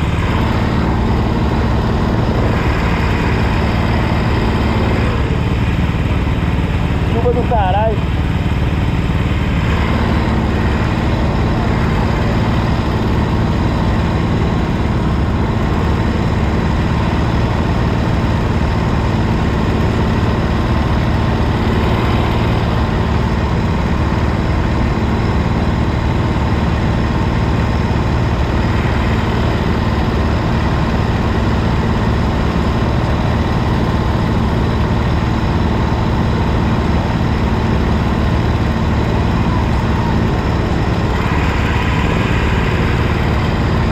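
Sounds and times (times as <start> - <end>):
kart engine running: 0.0 - 43.9.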